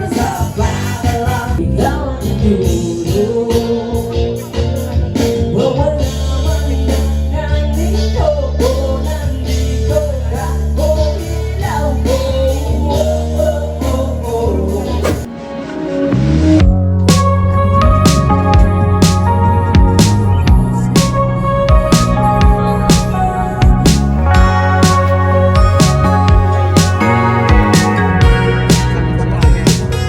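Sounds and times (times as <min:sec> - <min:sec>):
pop music: 0:00.0 - 0:30.0.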